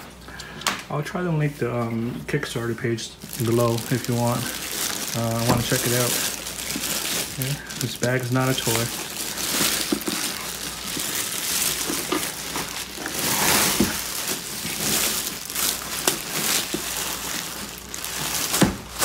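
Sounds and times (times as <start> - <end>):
plastic bag crinkling: 2.5 - 19.0.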